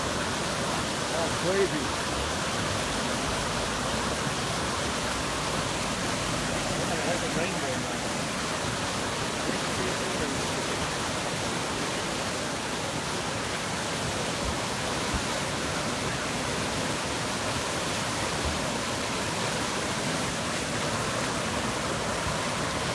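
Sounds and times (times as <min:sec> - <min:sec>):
rushing floodwater: 0:00.0 - 0:22.9.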